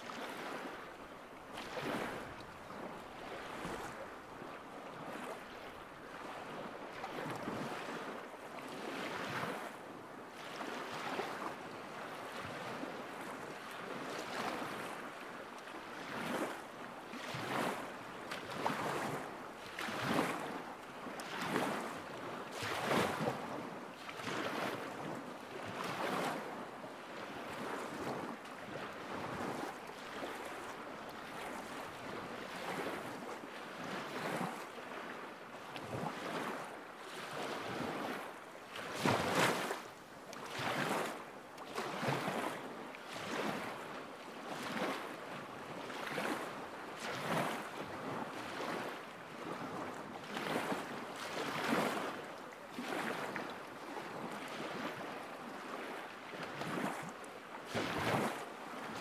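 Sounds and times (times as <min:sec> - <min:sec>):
lake waves lapping shore: 0:00.0 - 0:59.0.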